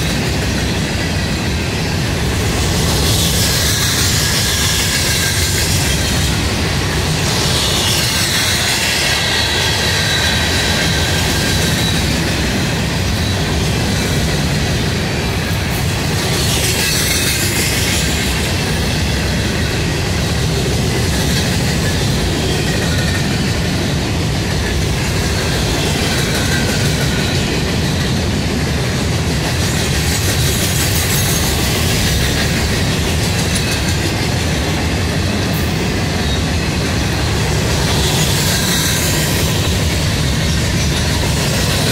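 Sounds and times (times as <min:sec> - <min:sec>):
freight train wheels rumbling: 0:00.0 - 0:41.9.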